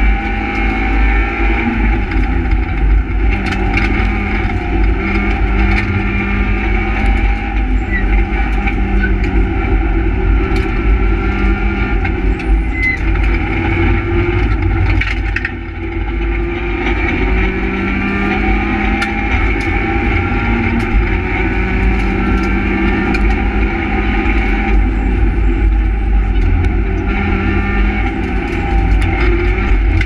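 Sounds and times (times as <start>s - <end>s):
rally car engine revving: 0.0s - 30.0s
road and tyre rumble: 0.0s - 30.0s.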